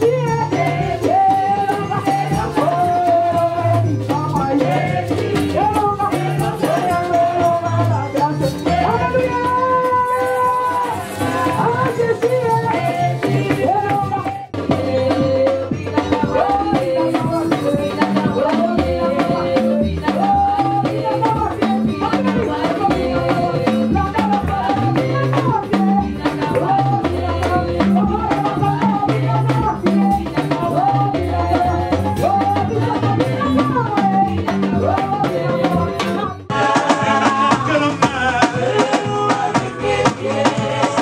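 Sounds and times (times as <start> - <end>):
band with drums and bass: 0.0 - 41.0
woman singing into microphone: 0.0 - 41.0.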